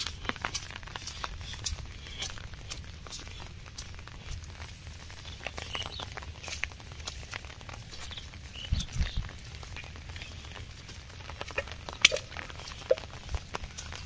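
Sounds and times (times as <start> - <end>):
footsteps squelching in mud: 0.0 - 14.0.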